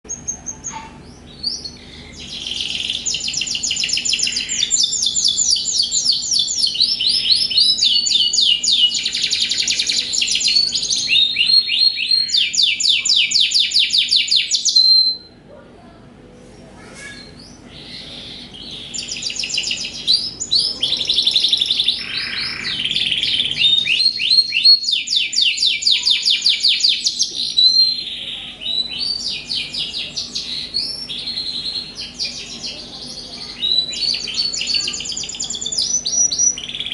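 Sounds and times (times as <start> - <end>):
canaries singing rapid trills: 0.1 - 15.4, 16.8 - 36.9.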